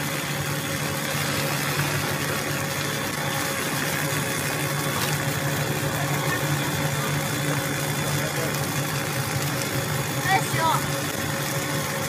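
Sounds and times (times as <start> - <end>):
machinery low hum: 0.0 - 12.0.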